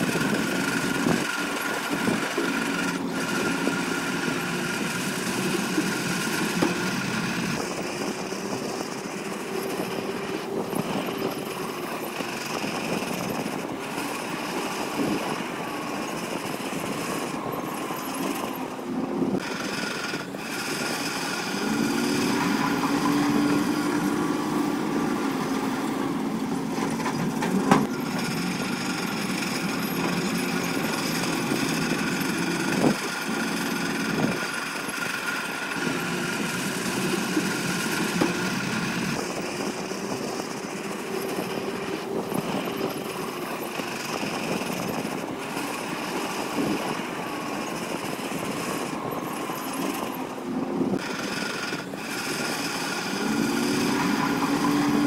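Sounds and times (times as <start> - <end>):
heavy diesel engines revving: 0.0 - 55.0.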